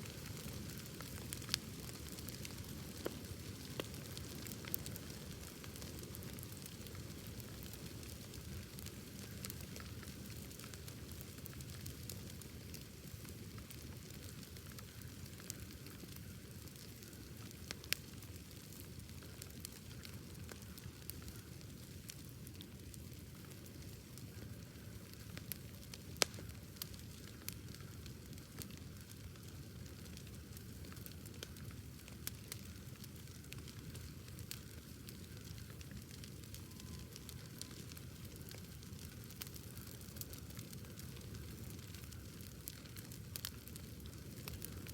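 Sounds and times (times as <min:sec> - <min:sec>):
bonfire flames rumbling: 0:00.0 - 0:44.9
fire crackles and pops: 0:00.0 - 0:44.9.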